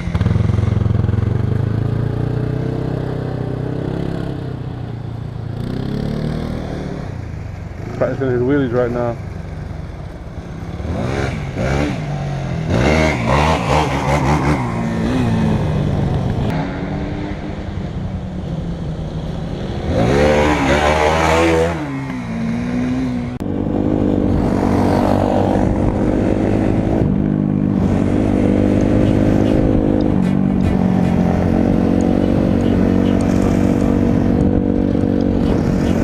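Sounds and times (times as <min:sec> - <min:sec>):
motorcycle and quad engines revving: 0:00.0 - 0:36.0.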